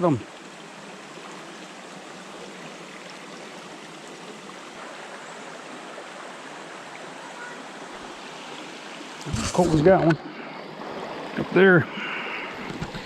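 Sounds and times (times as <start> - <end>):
creek water running over rocks: 0.0 - 13.0.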